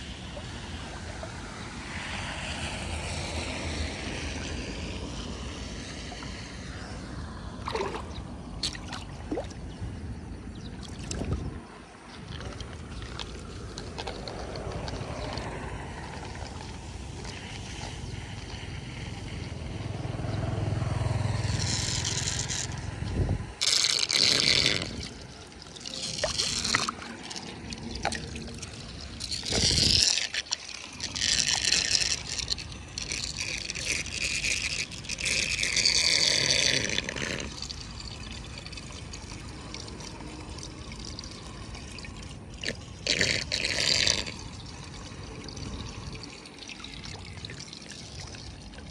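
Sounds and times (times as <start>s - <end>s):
floodwater sloshing and splashing: 0.0s - 48.9s.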